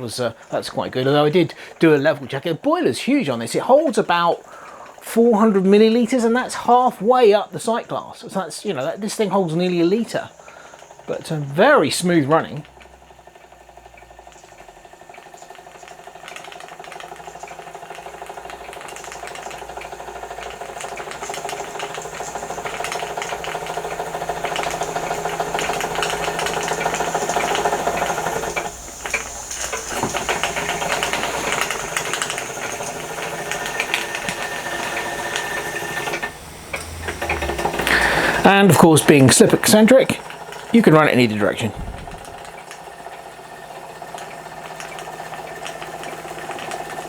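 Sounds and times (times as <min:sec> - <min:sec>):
model steam engine exhaust beats: 0:00.0 - 0:47.0.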